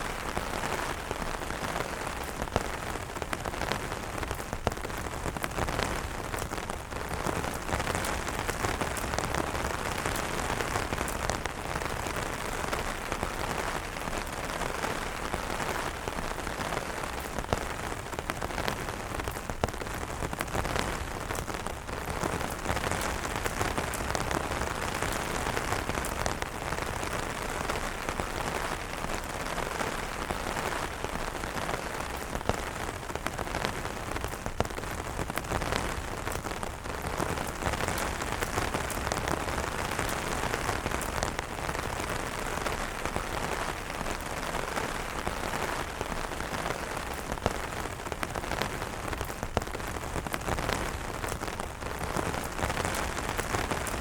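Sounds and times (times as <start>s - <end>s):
rain falling on umbrellas: 0.0s - 54.0s.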